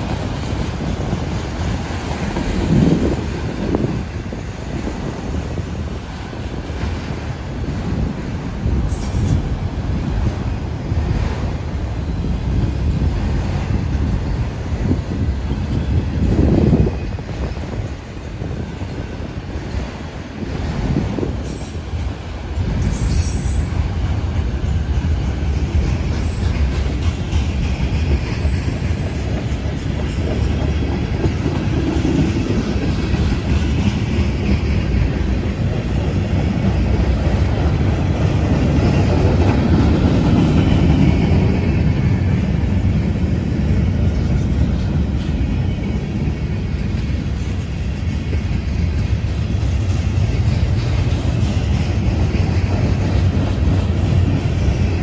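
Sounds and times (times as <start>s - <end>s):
freight train rolling past: 0.0s - 55.0s
steel wheels rumbling on rail: 0.0s - 55.0s.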